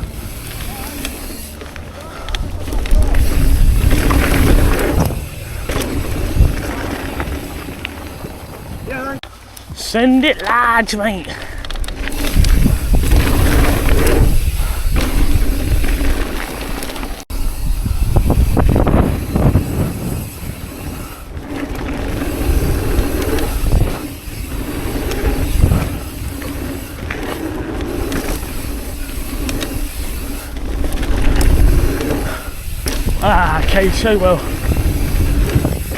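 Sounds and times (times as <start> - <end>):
tyre noise on dirt: 0.0 - 35.9
wind buffeting microphone: 2.1 - 9.2, 11.5 - 16.4, 17.3 - 35.9.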